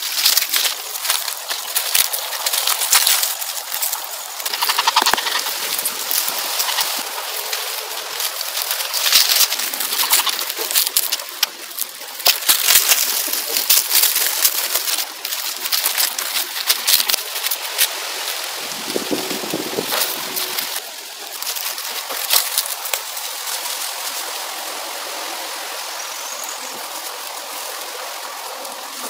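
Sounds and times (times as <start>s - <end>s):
dry leaves rustling: 0.0s - 29.0s.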